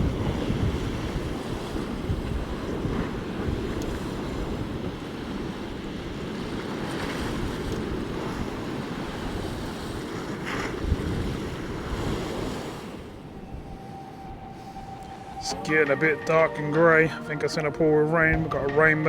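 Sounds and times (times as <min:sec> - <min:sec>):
wind buffeting microphone: 0:00.0 - 0:16.2
surf breaking on shore: 0:00.0 - 0:19.0.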